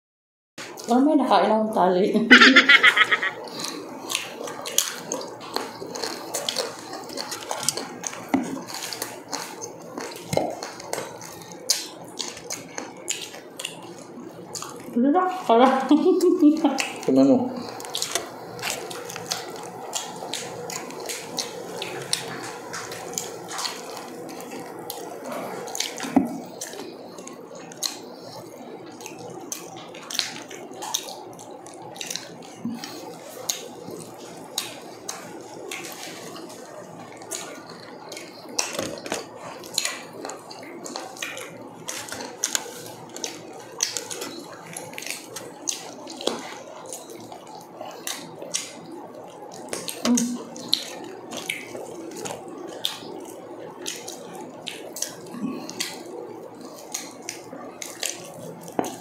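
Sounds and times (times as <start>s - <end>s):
wet chewing and lip-smacking: 2.3s - 59.0s.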